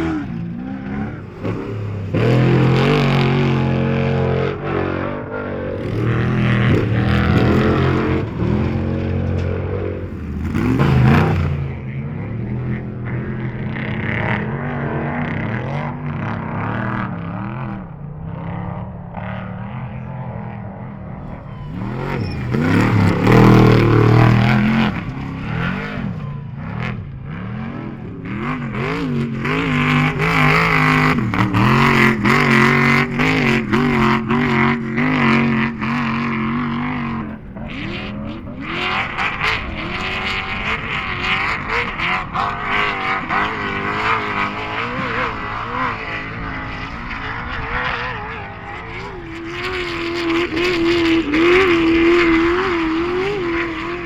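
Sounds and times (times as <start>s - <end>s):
race vehicle engines revving: 0.0s - 54.0s.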